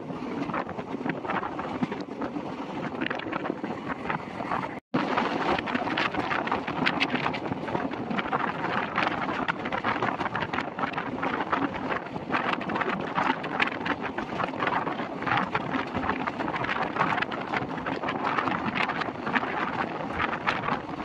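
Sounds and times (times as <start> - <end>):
train wheels rumbling and clattering: 0.0 - 21.0
wind buffeting microphone: 0.0 - 21.0.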